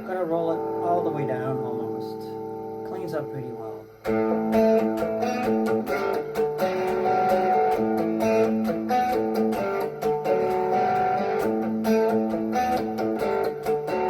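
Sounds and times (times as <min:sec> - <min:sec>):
electric guitar riff: 0:00.0 - 0:14.0.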